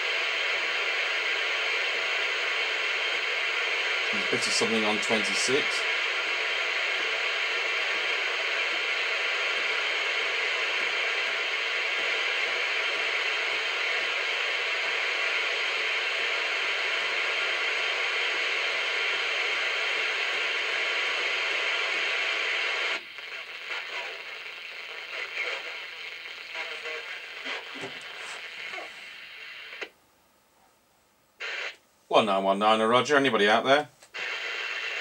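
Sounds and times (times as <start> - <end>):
radio static hiss: 0.0 - 30.0, 31.4 - 35.0.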